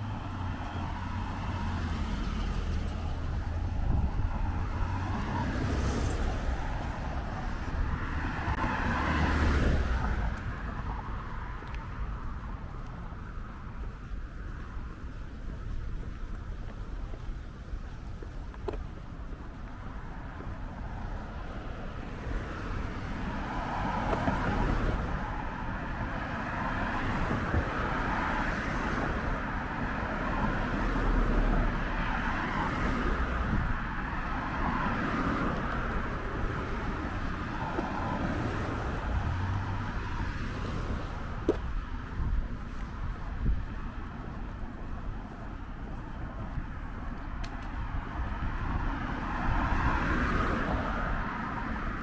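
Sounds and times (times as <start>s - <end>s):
cars passing on city street: 0.0s - 52.0s.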